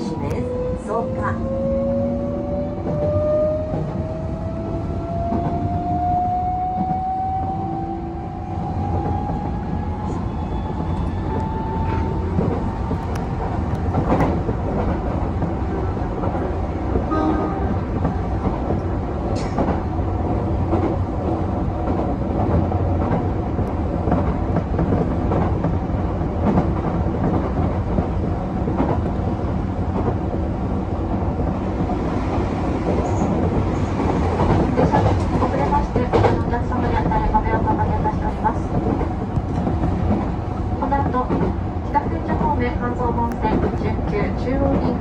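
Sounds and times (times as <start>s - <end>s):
passing train: 0.0s - 45.0s
train wheels rumbling on rails: 0.0s - 45.0s.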